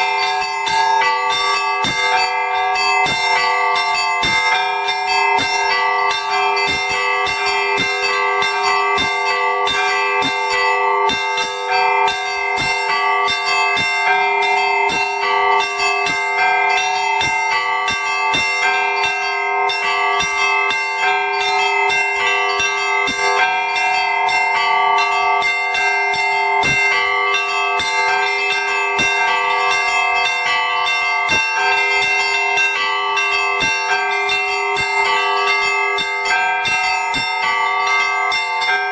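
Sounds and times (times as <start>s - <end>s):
large bells ringing: 0.0s - 38.9s
small bells struck quickly: 0.0s - 38.9s.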